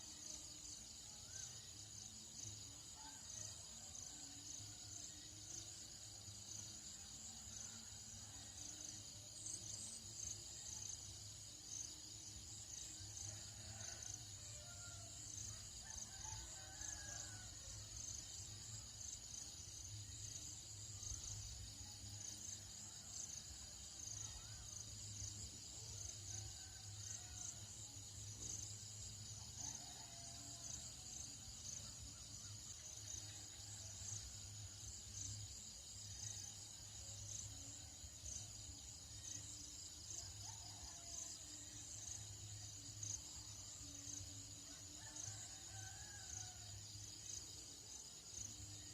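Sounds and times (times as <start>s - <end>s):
insect chorus: 0.0s - 48.9s.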